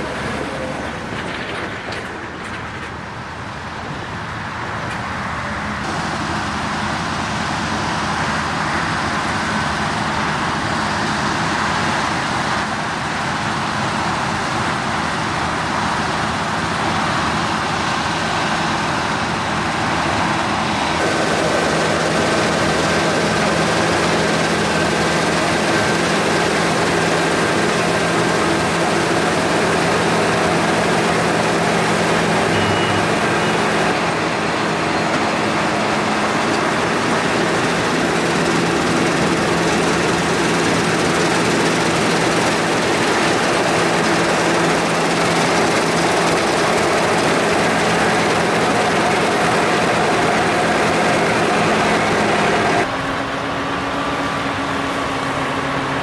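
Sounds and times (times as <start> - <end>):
combine harvester engine drone: 0.0 - 56.0
threshing machinery noise: 0.0 - 56.0.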